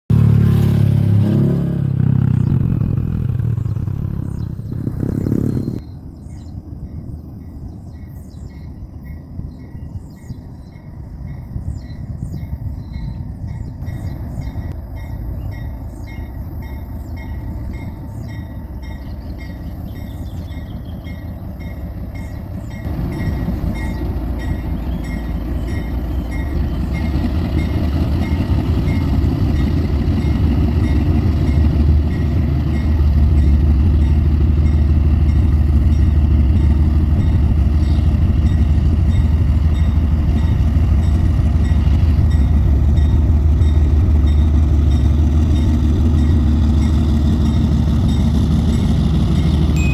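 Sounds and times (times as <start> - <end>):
diesel locomotives rumbling: 0.1 - 49.9.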